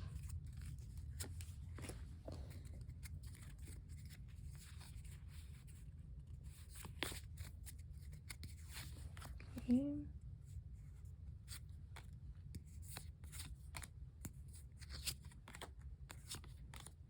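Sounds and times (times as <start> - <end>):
trading cards clicking and rustling: 0.0 - 9.4, 11.5 - 17.0.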